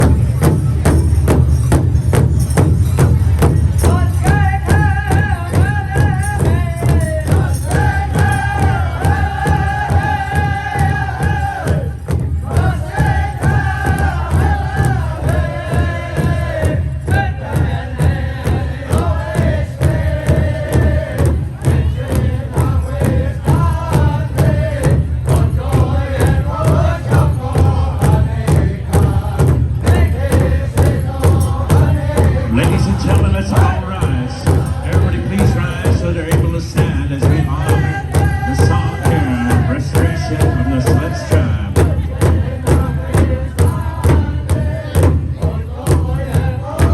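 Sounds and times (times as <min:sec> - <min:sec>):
large drum steady fast beat: 0:00.0 - 0:46.9.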